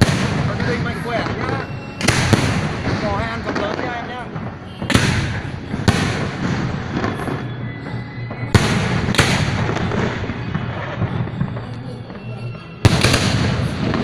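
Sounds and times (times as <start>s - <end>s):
sharp firework bangs: 0.0s - 7.7s, 8.3s - 14.0s
fireworks crackling and rumbling: 0.0s - 14.0s.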